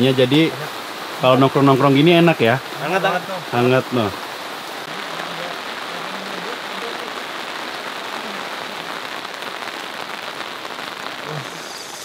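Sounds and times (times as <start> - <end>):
rain on tent fabric: 0.0 - 12.0.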